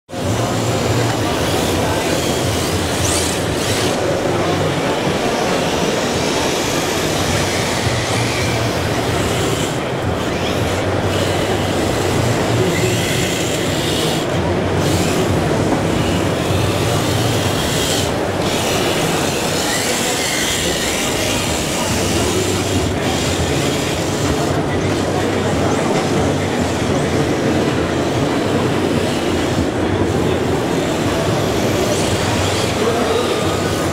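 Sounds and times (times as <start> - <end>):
small electric motors whining: 0.2 - 33.9.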